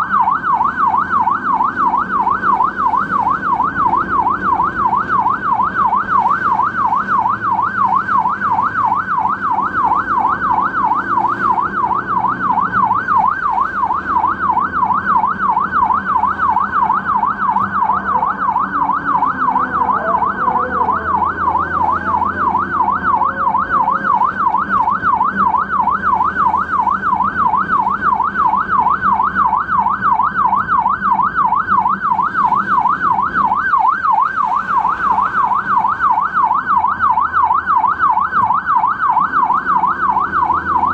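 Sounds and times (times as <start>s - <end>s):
ambulance siren yelping: 0.0s - 40.9s.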